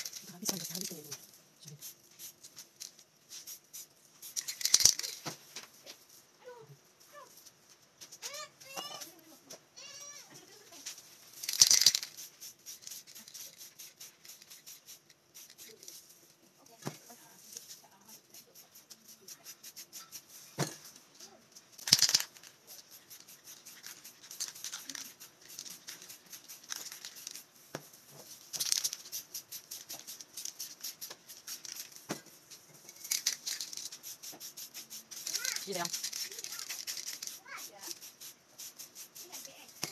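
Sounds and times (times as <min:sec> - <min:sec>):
spray paint can hissing: 0:00.0 - 0:05.3, 0:08.2 - 0:21.0, 0:21.7 - 0:39.9
spray can rattling: 0:00.0 - 0:05.8, 0:08.1 - 0:39.9.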